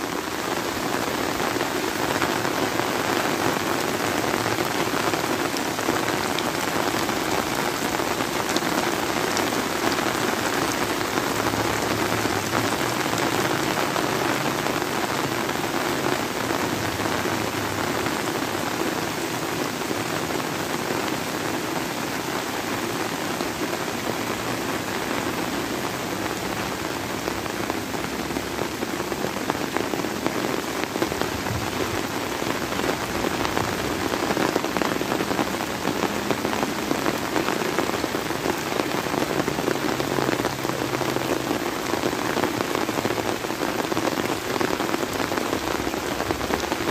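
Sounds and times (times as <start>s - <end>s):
heavy rain pouring on leaves and water: 0.0s - 46.9s.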